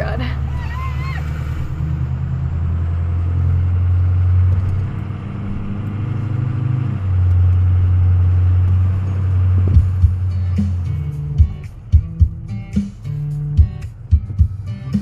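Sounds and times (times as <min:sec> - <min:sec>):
road noise: 0:00.0 - 0:15.0
truck engine drone: 0:00.0 - 0:15.0.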